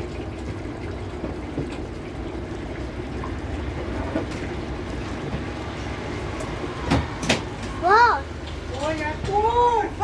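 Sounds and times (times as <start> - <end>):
washing machine humming: 0.0 - 10.0.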